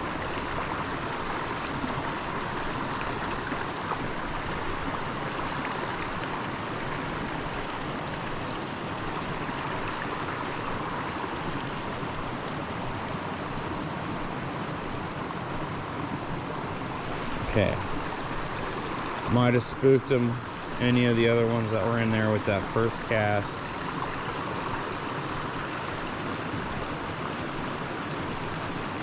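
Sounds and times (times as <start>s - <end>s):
creek rushing over rocks: 0.0s - 29.0s.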